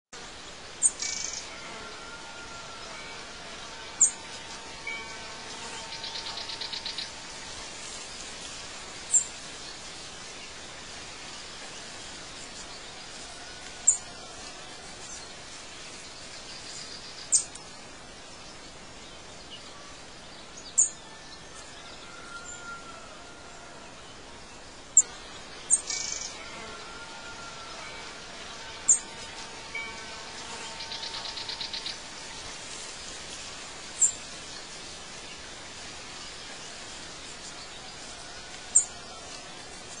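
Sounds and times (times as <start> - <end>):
steady background hiss: 0.2 - 40.0.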